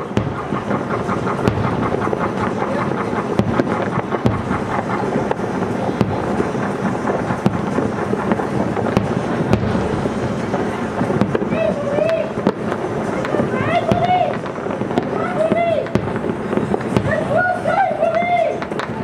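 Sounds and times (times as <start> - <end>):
fireworks booming: 0.0 - 19.0
sharp fireworks cracks: 0.0 - 19.0.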